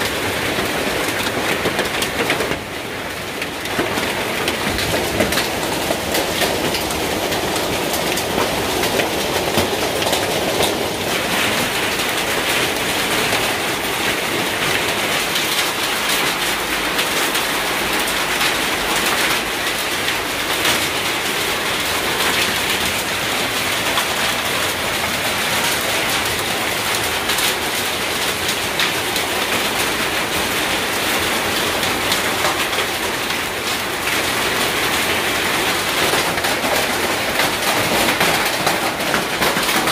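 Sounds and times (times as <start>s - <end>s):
hail and rain on tin roof: 0.0s - 39.9s.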